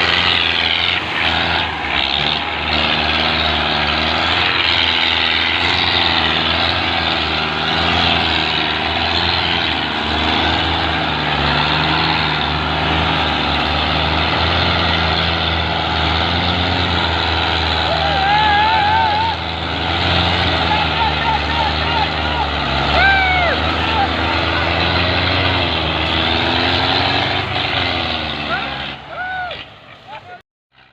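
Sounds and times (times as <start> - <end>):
tractor diesel engine straining: 0.0 - 30.9.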